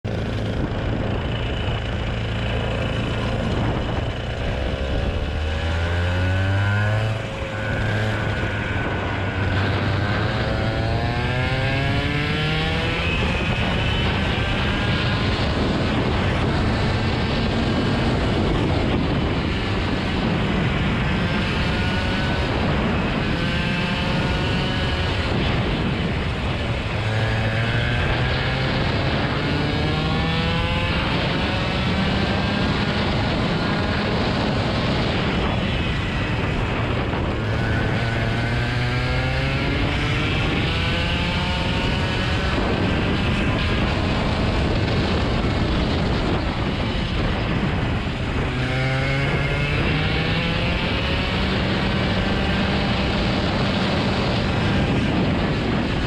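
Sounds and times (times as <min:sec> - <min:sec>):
road noise: 0:00.0 - 0:56.0
vehicle engine accelerating: 0:00.0 - 0:56.0.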